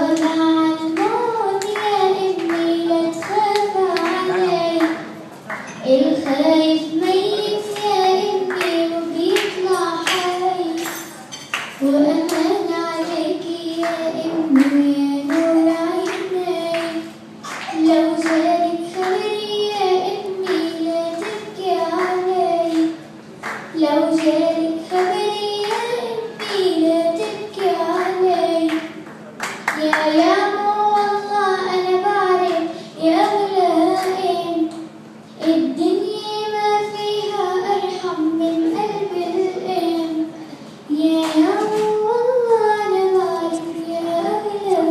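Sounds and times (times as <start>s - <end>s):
girl singing unaccompanied: 0.0s - 29.0s, 29.7s - 44.9s.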